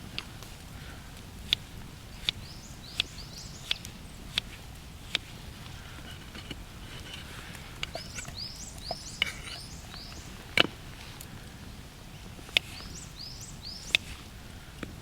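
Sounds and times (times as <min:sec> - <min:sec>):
small bird calling: 0:02.1 - 0:14.8.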